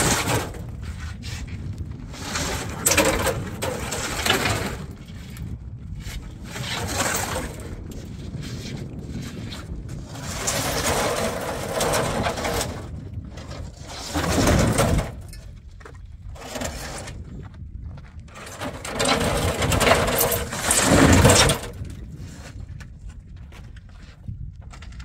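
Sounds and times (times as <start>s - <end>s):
concrete blocks scraping on metal: 0.0s - 15.6s, 16.2s - 17.3s, 18.3s - 22.9s.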